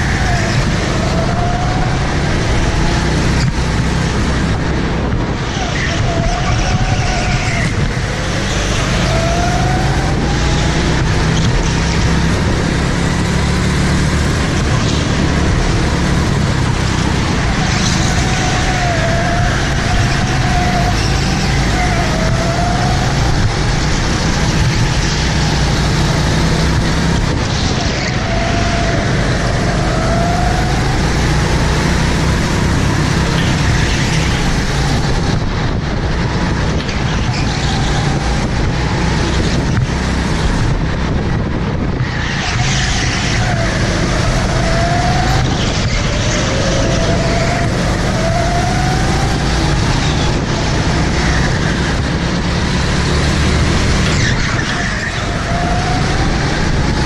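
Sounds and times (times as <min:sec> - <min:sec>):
go-kart engine rising and falling: 0:00.0 - 0:57.0
rush of noise: 0:00.0 - 0:57.0.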